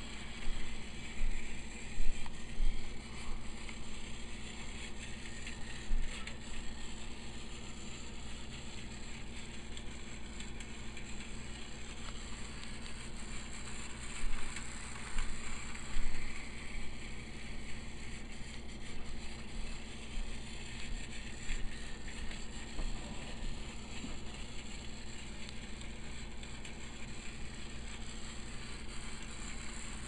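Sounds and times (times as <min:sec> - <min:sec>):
toy train motor whirring: 0:00.0 - 0:30.0.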